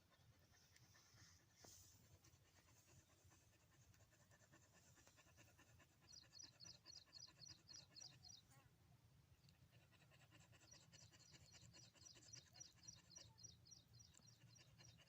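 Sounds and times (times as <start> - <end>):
dog panting: 0.0 - 8.4, 9.7 - 15.0.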